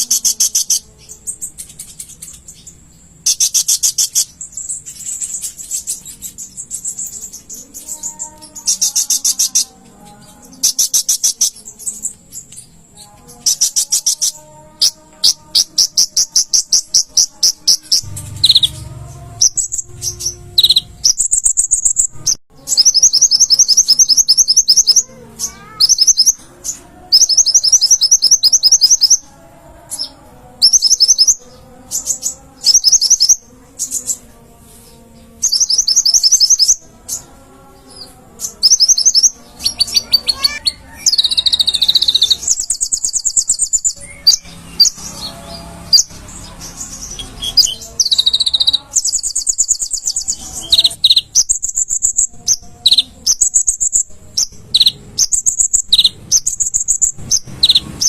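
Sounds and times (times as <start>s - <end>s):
bird trilling: 0.0s - 12.5s, 13.4s - 29.3s, 35.4s - 37.2s, 38.4s - 58.0s.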